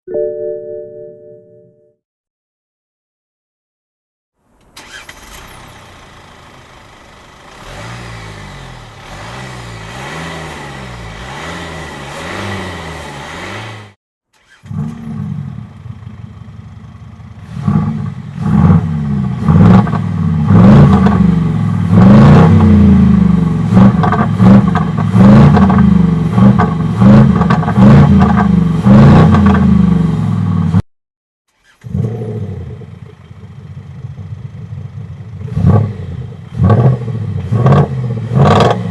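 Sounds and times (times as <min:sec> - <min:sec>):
diesel engine revving: 0:04.8 - 0:30.8, 0:31.6 - 0:38.9.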